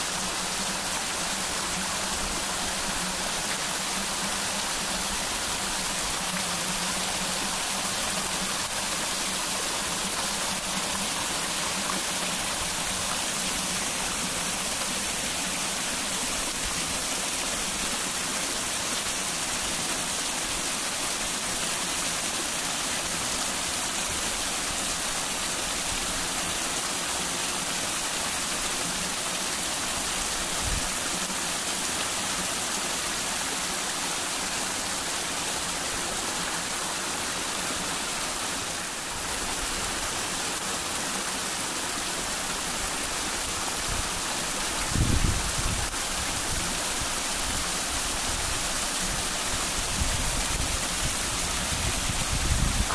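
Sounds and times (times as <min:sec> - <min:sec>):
small waterfall rushing: 0:00.0 - 0:52.9.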